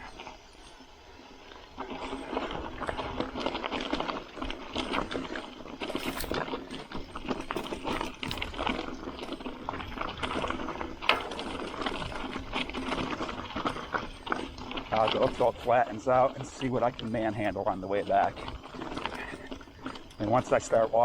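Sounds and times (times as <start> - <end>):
bike rattling: 0.0 - 21.0
tyres clattering on loose stones: 1.8 - 21.0.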